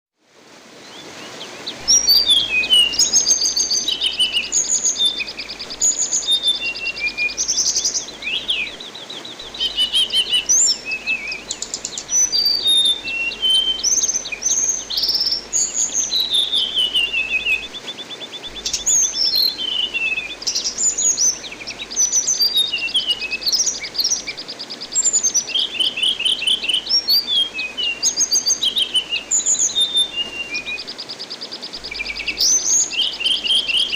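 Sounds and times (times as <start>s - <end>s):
running water hiss: 0.2s - 33.9s.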